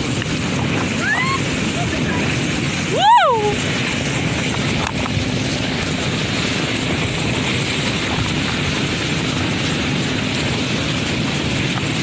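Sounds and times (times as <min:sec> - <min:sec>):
water spraying: 0:00.0 - 0:12.0
wind buffeting microphone: 0:00.0 - 0:12.0.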